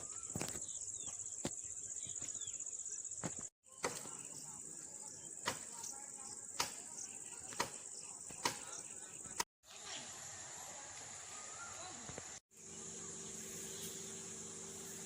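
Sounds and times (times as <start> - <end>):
insects buzzing: 0.0 - 9.4, 11.8 - 15.0.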